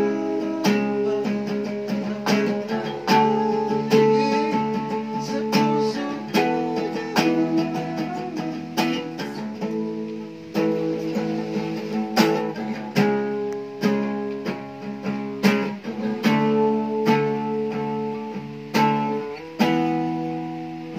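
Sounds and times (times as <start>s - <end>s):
acoustic guitar strumming chords: 0.0s - 20.9s.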